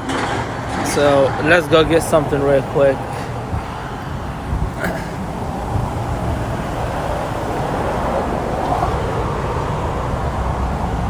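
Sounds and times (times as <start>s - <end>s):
road traffic: 0.0s - 11.0s
vehicle engines rumbling: 0.0s - 11.0s.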